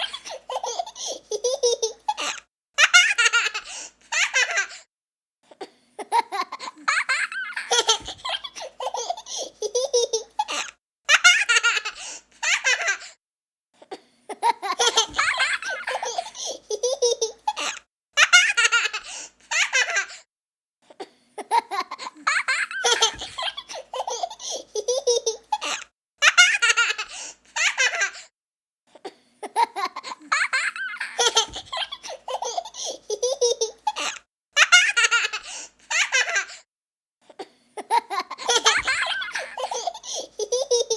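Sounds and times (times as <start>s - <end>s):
young child laughing: 0.0s - 4.8s, 6.0s - 13.1s, 14.3s - 20.2s, 21.4s - 28.2s, 29.4s - 36.6s, 37.8s - 40.9s.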